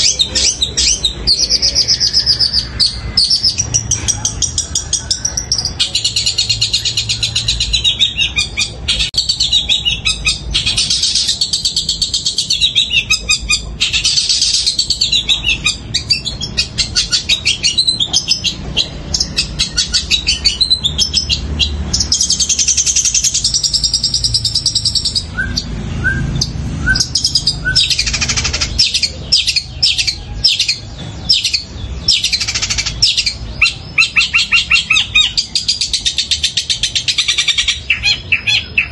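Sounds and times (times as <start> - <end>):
bird singing chattering trills: 0.0 - 38.9
sharp bird chirps: 0.0 - 38.9.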